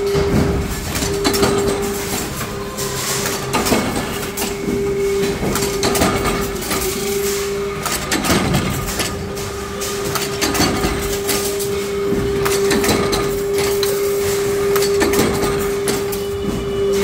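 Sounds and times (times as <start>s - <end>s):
power press clanking strokes: 0.0s - 17.0s
steady machine hum: 0.0s - 17.0s.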